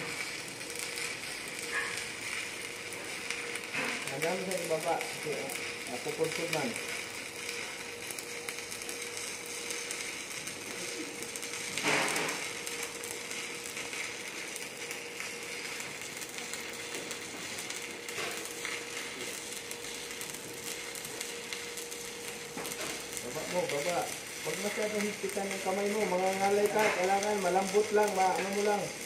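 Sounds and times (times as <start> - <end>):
welding arc crackling and hissing: 0.0 - 29.0.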